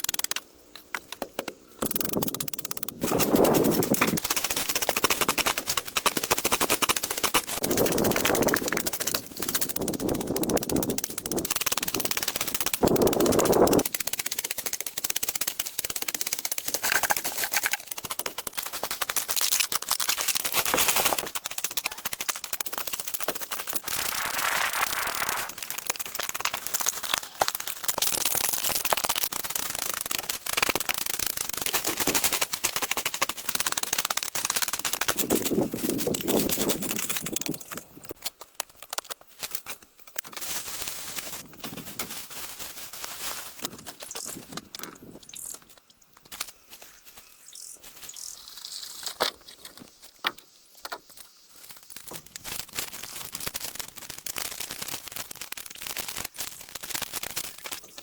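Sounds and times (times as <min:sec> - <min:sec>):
rapid clicks and crackles: 0:00.0 - 0:58.0.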